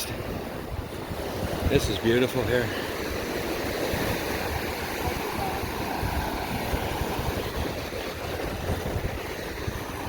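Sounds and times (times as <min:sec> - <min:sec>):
ocean surf washing onto beach: 0:00.0 - 0:10.0
wind buffeting microphone: 0:00.0 - 0:10.0.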